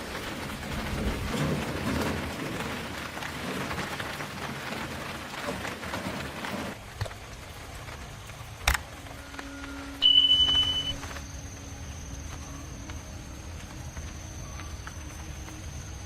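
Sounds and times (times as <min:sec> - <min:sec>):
rain pattering on a surface: 0:00.0 - 0:16.0.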